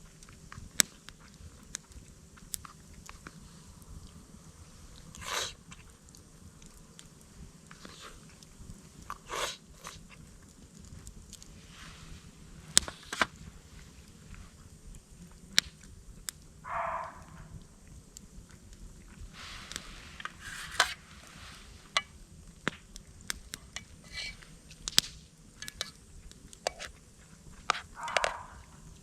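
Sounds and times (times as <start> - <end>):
crunching chews: 0.0 - 4.3, 4.9 - 11.5, 12.7 - 21.0, 22.5 - 29.0.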